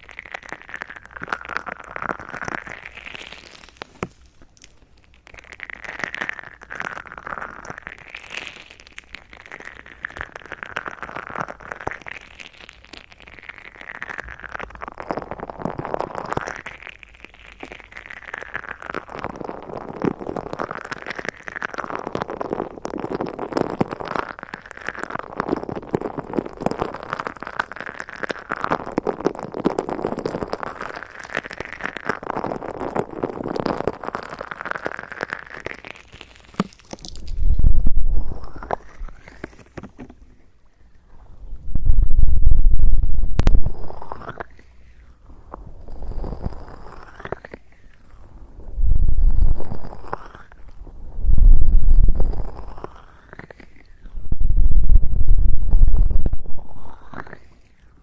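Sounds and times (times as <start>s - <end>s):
plastic crackling against microphones: 0.0s - 58.0s.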